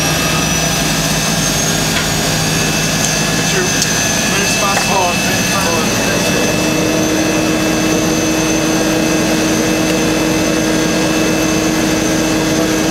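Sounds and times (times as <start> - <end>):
low steady hum: 0.0 - 11.6
turboprop engines idling: 0.0 - 12.9.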